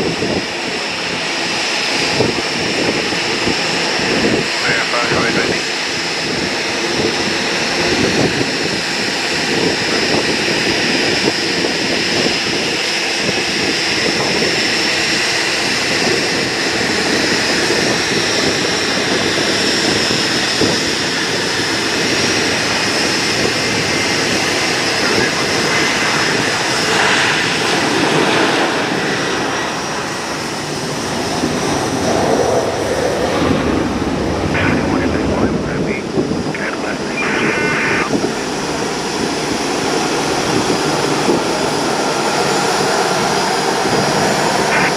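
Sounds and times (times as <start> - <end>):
high engine whine: 0.0 - 44.9
jet engines roaring: 0.0 - 44.9.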